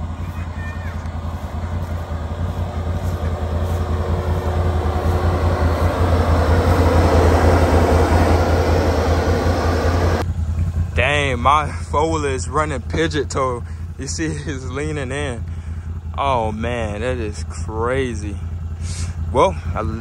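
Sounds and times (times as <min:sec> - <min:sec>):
atv engine idling: 0:00.0 - 0:20.0.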